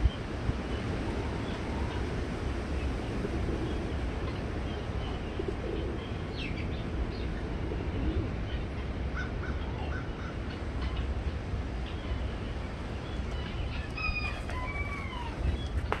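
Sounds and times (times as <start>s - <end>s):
birds chirping: 2.7s - 16.0s.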